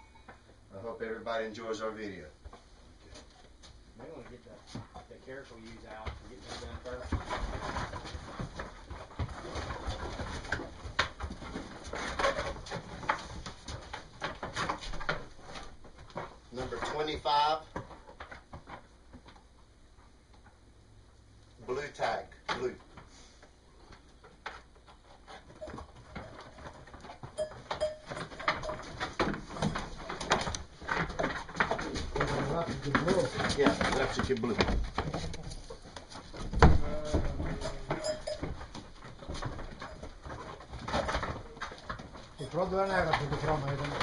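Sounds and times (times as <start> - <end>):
hooves knocking on wooden boards: 2.4 - 20.7, 23.8 - 44.0.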